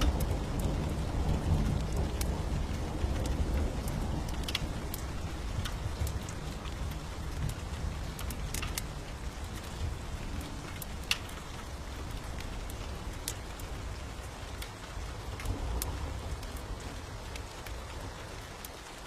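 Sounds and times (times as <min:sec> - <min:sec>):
fireplace fire crackling: 0:00.0 - 0:19.0
rain hiss: 0:00.0 - 0:19.0.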